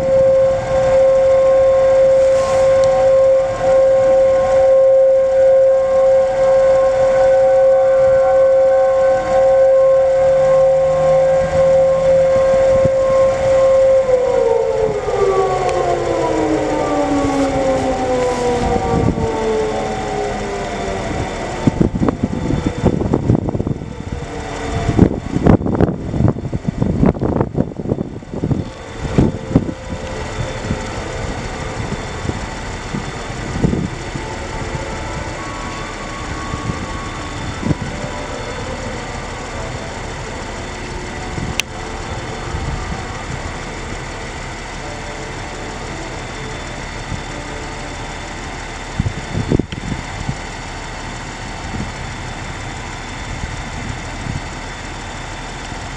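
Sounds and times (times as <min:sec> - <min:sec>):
traffic and engine rumble: 0:00.0 - 0:55.9.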